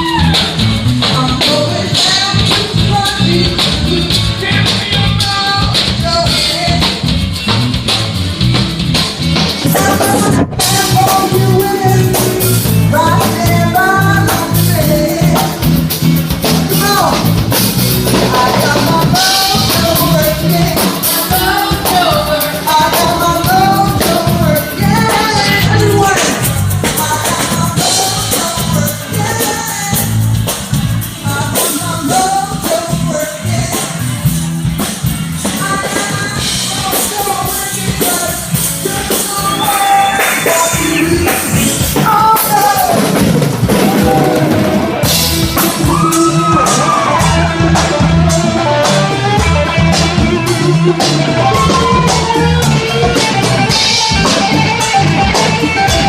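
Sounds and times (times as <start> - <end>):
person singing: 0.0 - 7.2, 9.6 - 34.3, 35.4 - 56.0
drum kit: 0.0 - 56.0
electric bass: 0.0 - 56.0
electric guitar: 0.0 - 56.0.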